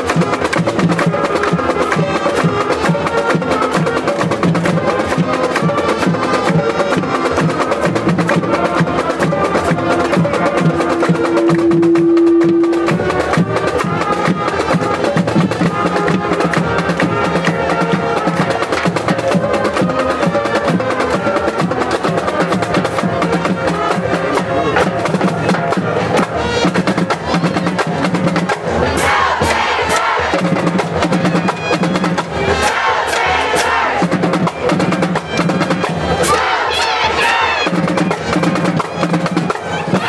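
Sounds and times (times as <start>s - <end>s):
marching band playing: 0.0s - 40.0s.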